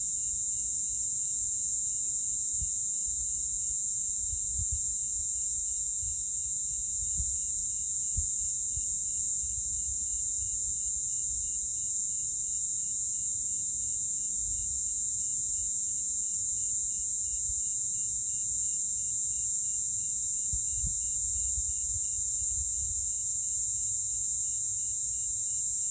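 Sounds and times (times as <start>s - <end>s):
cicadas droning: 0.0s - 25.9s
lower pulsing insect trills: 0.0s - 25.9s.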